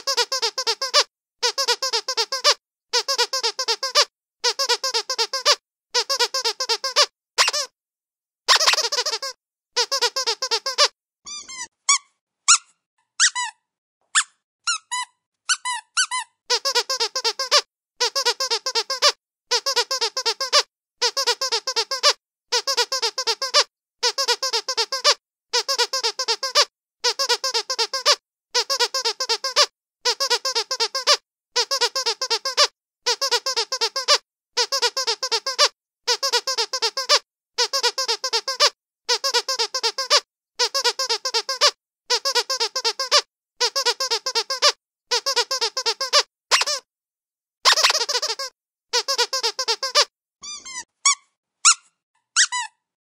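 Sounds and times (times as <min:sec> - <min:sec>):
dog squeaky toy squeaking: 0:00.0 - 0:07.7, 0:08.5 - 0:46.8, 0:47.6 - 0:52.8.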